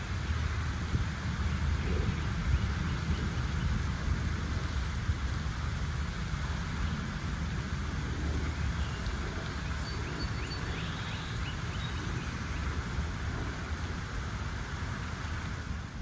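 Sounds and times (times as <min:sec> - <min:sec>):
low rumble and hiss: 0:00.0 - 0:16.0.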